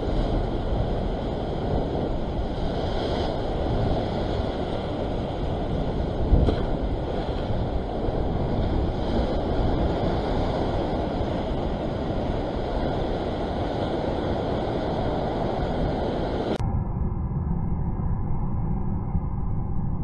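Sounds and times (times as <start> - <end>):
surf churning against rocks: 0.0 - 16.6
wind buffeting microphone: 0.0 - 16.6.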